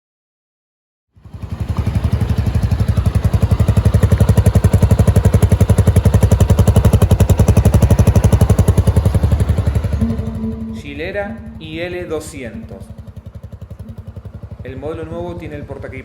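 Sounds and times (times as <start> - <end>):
motorcycle engine idling: 1.2 - 16.0.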